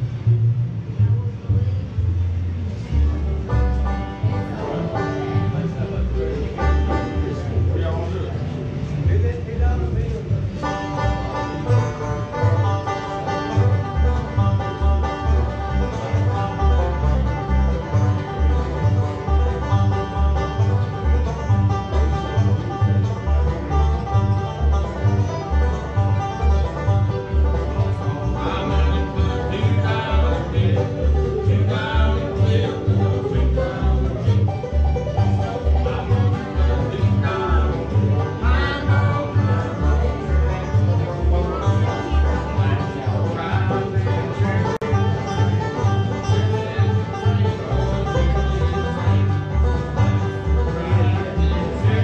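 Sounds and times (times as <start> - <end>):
banjo and guitar playing: 0.0 - 52.0
bass beat: 0.0 - 52.0.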